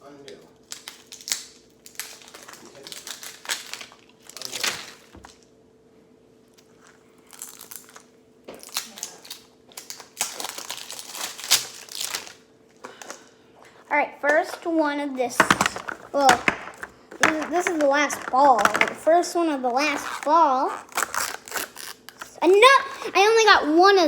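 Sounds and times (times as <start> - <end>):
plastic wrapping crinkling and tearing: 0.6 - 5.5, 6.6 - 13.2, 15.4 - 23.2.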